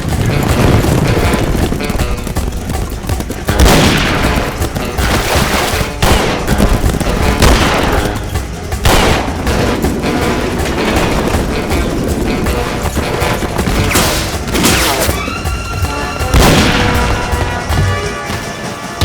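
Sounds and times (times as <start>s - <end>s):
gunfire volley: 0.0s - 18.4s
background music: 0.0s - 19.0s.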